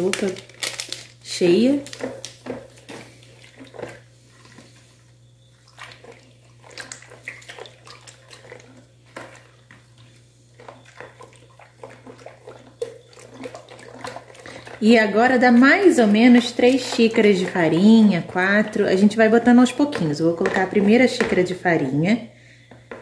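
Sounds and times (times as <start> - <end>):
liquid sloshing in a bowl: 0.0 - 22.0.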